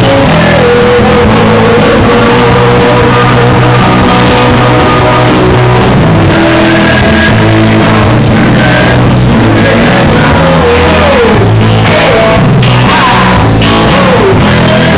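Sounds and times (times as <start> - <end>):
drum kit: 0.0 - 14.9
electric guitars: 0.0 - 14.9
man singing: 0.0 - 14.9.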